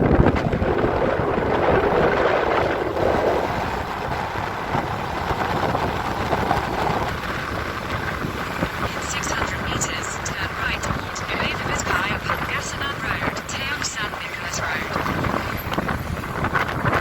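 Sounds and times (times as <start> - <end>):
motorcycle engine and road noise: 0.0 - 17.0
wind rushing over microphone: 0.0 - 17.0.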